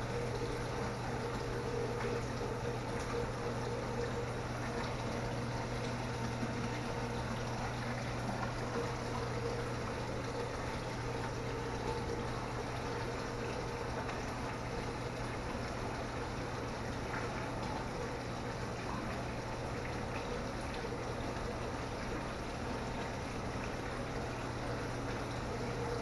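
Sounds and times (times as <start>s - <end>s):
low pump hum: 0.0s - 26.0s
water running: 0.0s - 26.0s.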